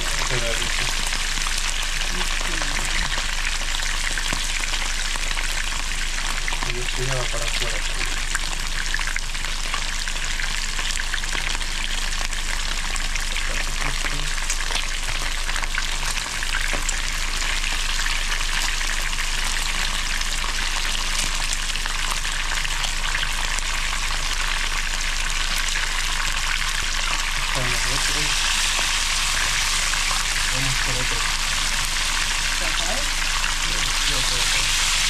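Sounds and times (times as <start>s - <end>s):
fish frying in hot oil: 0.0s - 35.0s.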